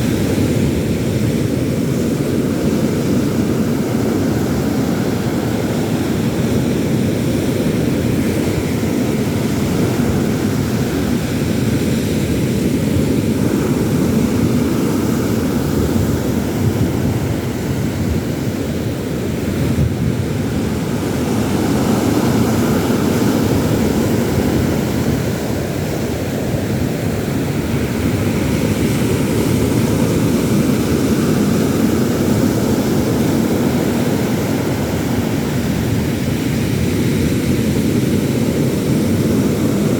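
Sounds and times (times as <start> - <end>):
sea surf: 0.0 - 39.9
wind: 0.0 - 39.9.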